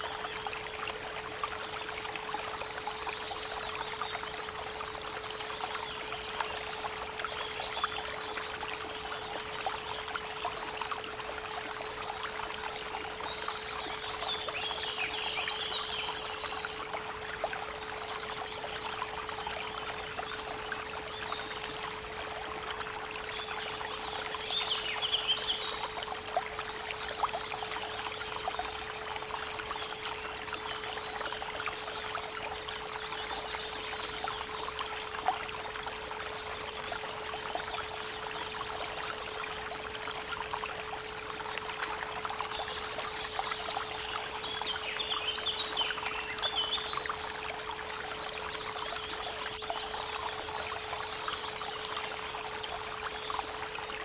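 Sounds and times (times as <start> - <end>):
birds singing: 0.0 - 22.0, 22.7 - 34.8, 36.2 - 54.0
creek water trickling: 0.0 - 54.0.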